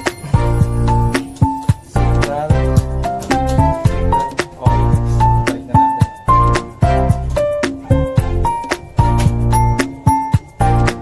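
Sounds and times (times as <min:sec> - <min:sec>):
deep drum beat: 0:00.0 - 0:11.0
instrumental background music: 0:00.0 - 0:11.0.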